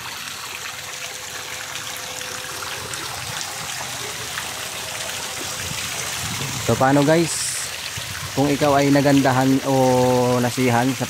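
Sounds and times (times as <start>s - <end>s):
water pouring into stone basin: 0.0s - 11.0s.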